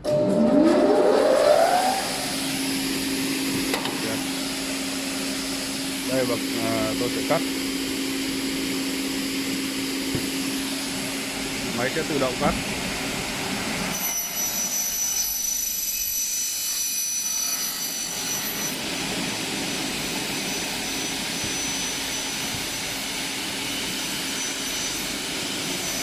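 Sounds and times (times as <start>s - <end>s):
saw cutting aluminium: 0.6s - 26.0s.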